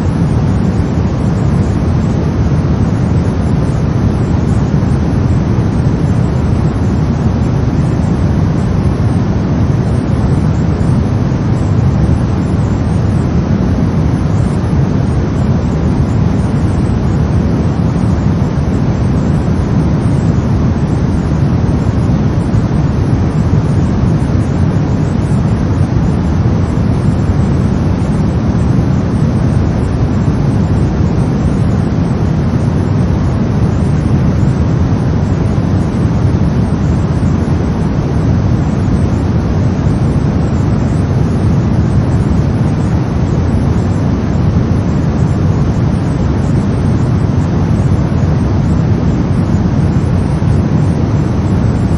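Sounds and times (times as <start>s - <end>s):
brown noise: 0.0s - 51.9s.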